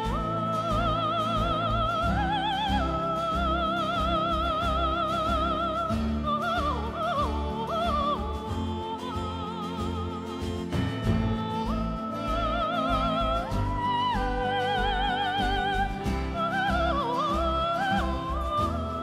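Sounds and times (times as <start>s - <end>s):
operatic voice singing: 0.0s - 19.0s.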